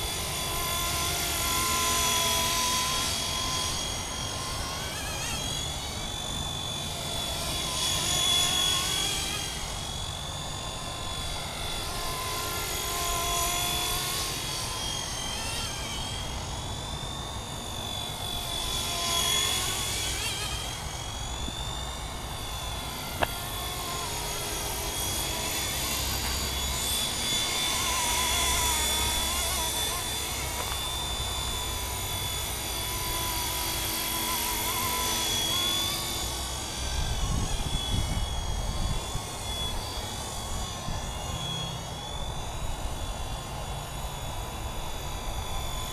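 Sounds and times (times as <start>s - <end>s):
model helicopter whine: 0.0s - 45.9s.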